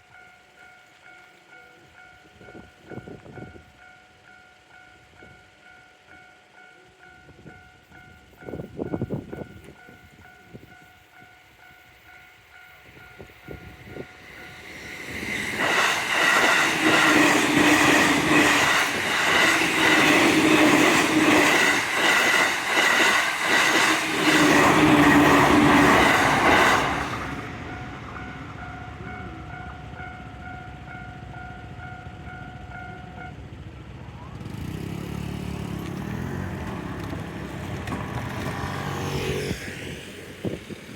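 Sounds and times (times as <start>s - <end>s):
crossing warning bell chiming: 0.0s - 35.4s
train wheels clacking on rails: 6.8s - 33.6s, 34.4s - 40.9s.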